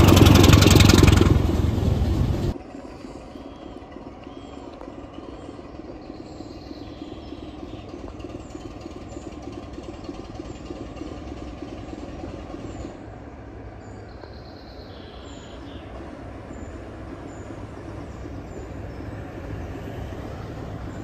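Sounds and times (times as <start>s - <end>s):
birds chirping: 0.0s - 21.0s
diesel locomotive engine drone: 0.0s - 21.0s.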